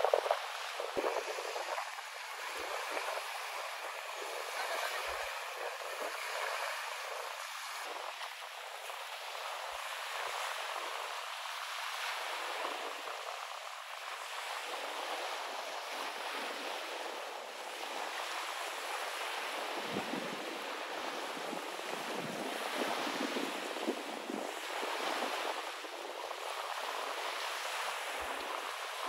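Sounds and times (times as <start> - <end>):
small sea waves lapping: 0.0 - 29.0
wind: 0.0 - 29.0.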